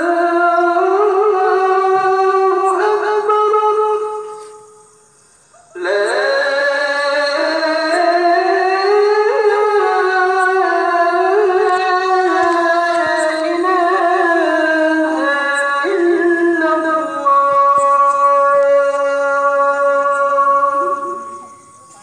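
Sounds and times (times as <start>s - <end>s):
man chanting call to prayer: 0.0s - 4.6s, 5.6s - 22.0s.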